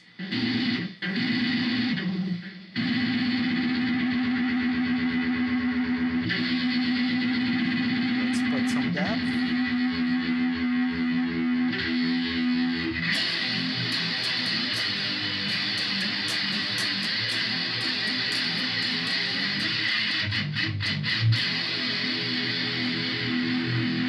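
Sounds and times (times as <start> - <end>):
electric guitar with flanger effect: 0.0 - 24.0.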